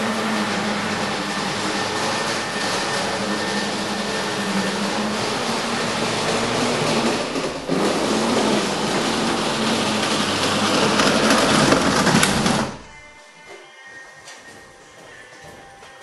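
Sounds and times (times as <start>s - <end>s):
model tram motor whirring: 0.0s - 13.0s
wheels rolling on track: 0.0s - 13.0s.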